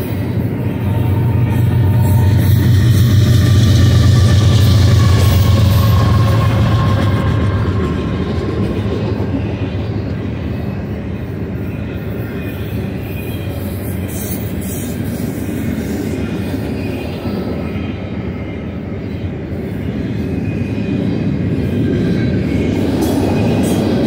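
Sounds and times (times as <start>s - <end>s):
train wheels clattering on rail: 0.0s - 24.0s.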